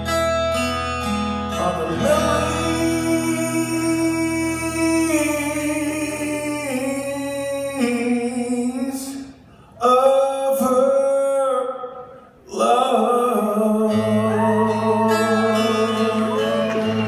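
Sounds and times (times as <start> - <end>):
man singing long notes: 1.6 - 17.0.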